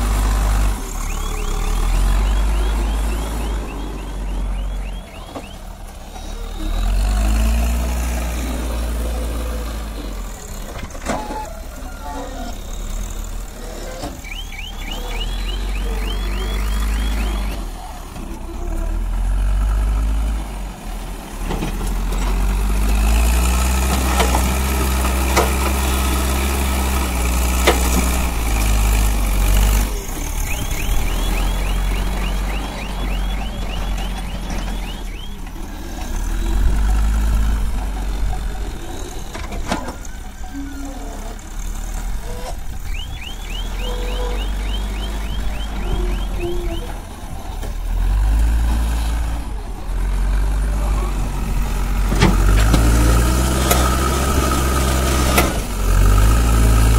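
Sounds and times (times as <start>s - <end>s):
backhoe diesel engine running: 0.0s - 56.9s.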